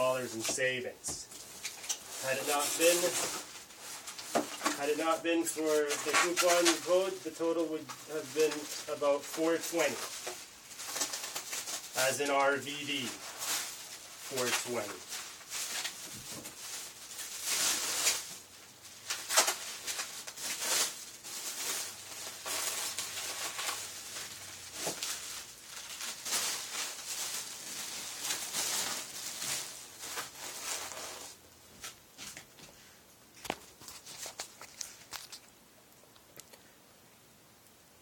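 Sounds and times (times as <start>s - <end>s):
packaging rustling and crinkling: 0.0s - 32.8s, 33.4s - 35.6s.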